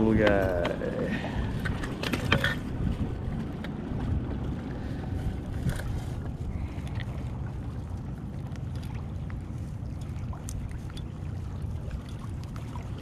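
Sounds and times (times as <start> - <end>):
waves lapping against canoe hull: 0.0 - 13.0
wind buffeting microphone: 0.0 - 13.0.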